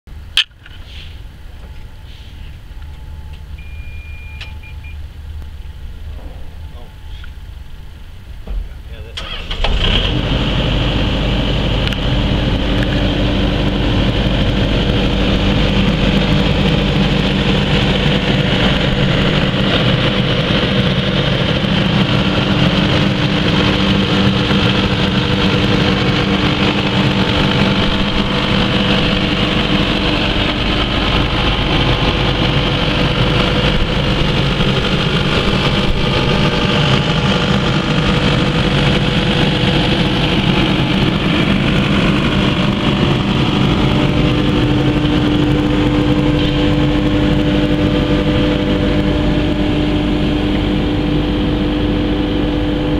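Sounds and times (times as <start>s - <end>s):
excavator diesel engine idling: 0.1s - 52.9s.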